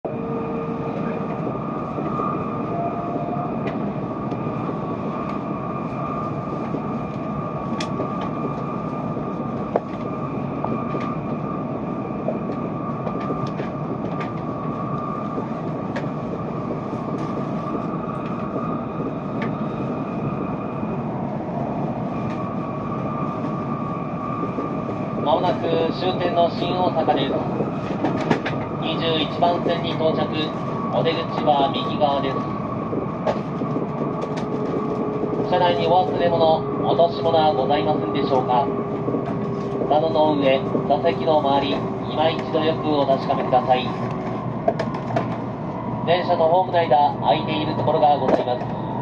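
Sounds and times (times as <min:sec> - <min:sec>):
train rumbling inside carriage: 0:00.0 - 0:49.0.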